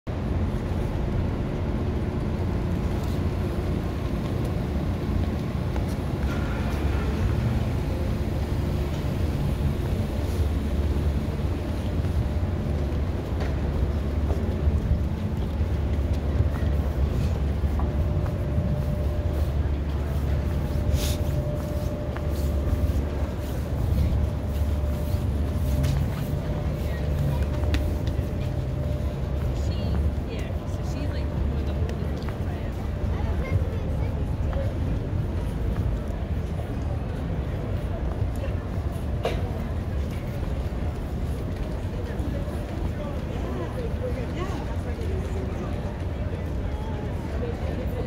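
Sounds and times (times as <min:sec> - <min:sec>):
low city rumble: 0:00.0 - 0:48.0
distant traffic hum: 0:00.1 - 0:48.0.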